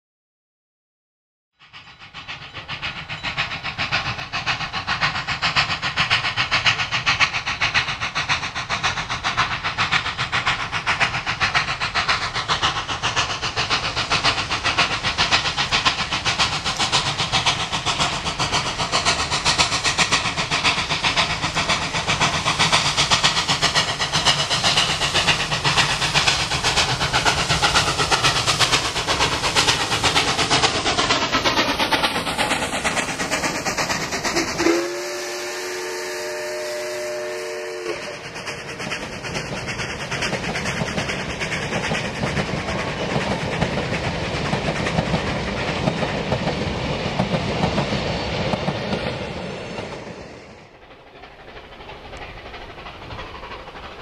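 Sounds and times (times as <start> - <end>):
hiss of steam: 1.6 - 54.0
steam locomotive exhaust beating: 1.6 - 54.0.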